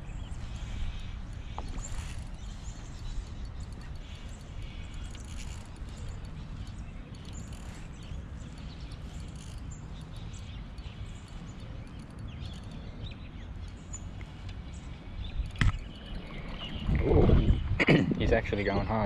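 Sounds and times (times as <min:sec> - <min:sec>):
faint bird chirps: 0:00.0 - 0:17.7
wind rumble on microphone: 0:00.0 - 0:19.0.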